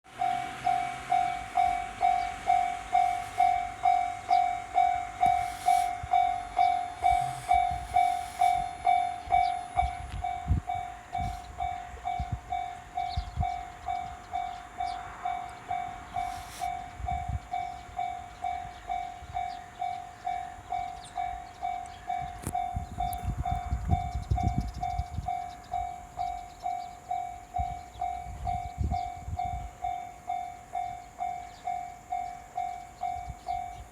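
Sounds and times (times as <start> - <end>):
train rumble: 0.0 - 33.9.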